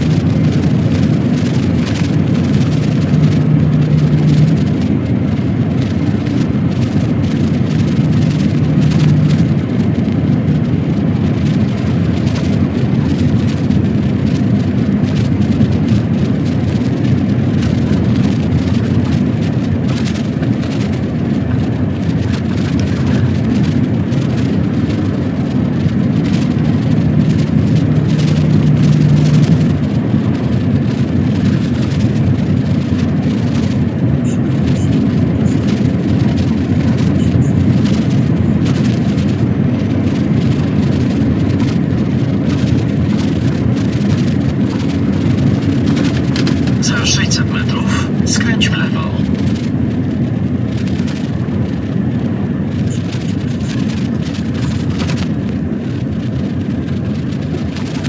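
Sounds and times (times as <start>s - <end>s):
diesel truck engine running: 0.0s - 58.0s
low engine hum: 0.0s - 58.0s
tyre and road noise: 0.0s - 58.0s.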